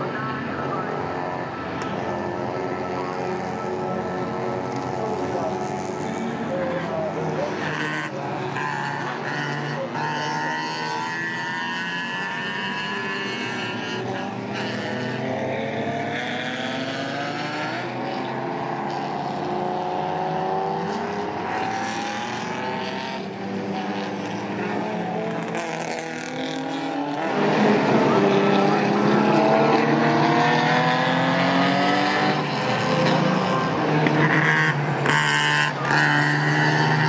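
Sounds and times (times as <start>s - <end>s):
racing car engines: 0.0s - 37.0s.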